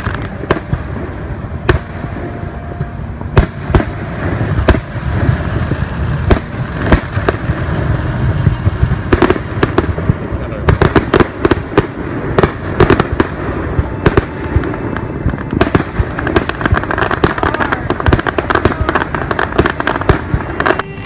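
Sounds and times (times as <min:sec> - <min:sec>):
firework bangs: 0:00.0 - 0:21.0
low rumble: 0:00.0 - 0:21.0.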